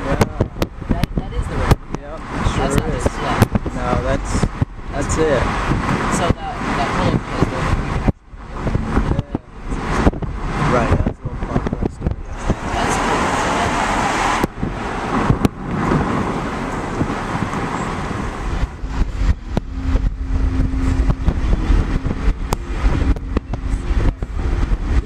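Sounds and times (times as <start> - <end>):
tyres and wind rumbling: 0.0 - 25.0.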